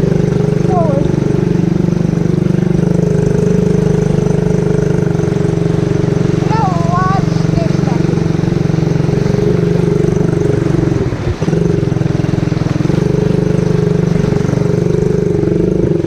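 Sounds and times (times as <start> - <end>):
atv engine running under throttle: 0.0 - 16.0.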